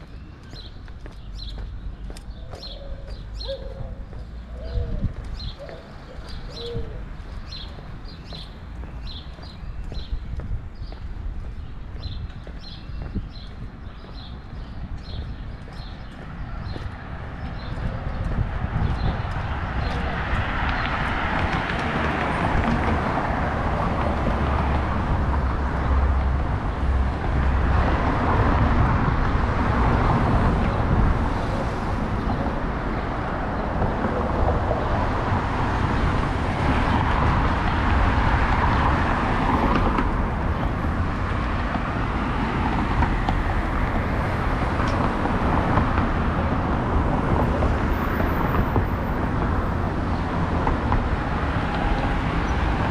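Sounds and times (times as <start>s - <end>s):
cars passing: 0.0s - 52.9s
low traffic rumble: 0.0s - 52.9s.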